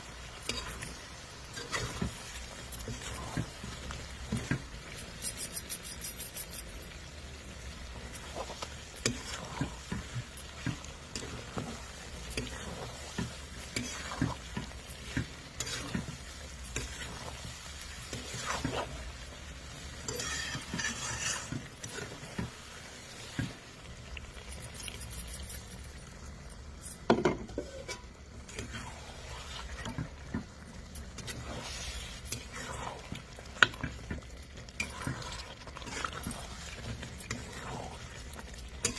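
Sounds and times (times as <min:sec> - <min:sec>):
food sizzling: 0:00.0 - 0:38.9
metal spoon scraping a pan: 0:00.1 - 0:23.5, 0:24.3 - 0:26.0, 0:26.8 - 0:38.9.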